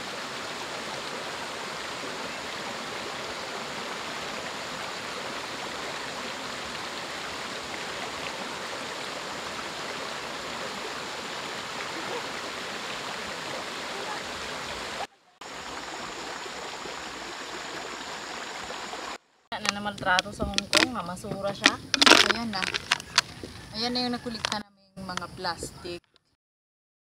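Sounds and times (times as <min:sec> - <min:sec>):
stream rushing over rocks: 0:00.0 - 0:24.6.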